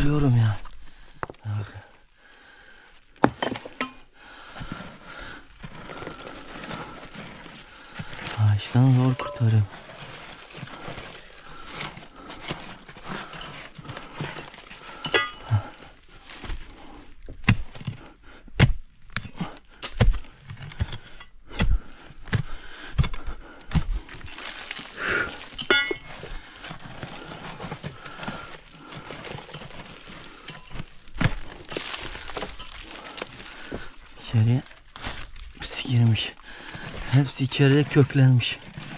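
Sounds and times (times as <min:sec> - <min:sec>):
rock and earth cracking: 0:00.0 - 0:38.9
digging knocks and thuds: 0:03.1 - 0:04.8, 0:05.6 - 0:38.9.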